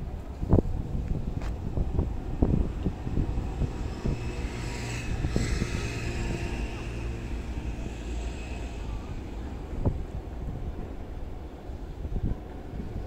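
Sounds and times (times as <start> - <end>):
vehicle engine hum: 0.0 - 13.0
wind buffeting microphone: 0.0 - 13.0.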